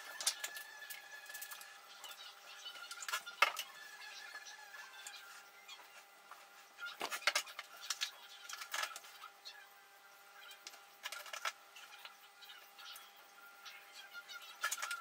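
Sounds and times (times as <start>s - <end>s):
clicks and scratches: 0.0s - 9.3s, 10.5s - 13.0s, 14.3s - 15.0s.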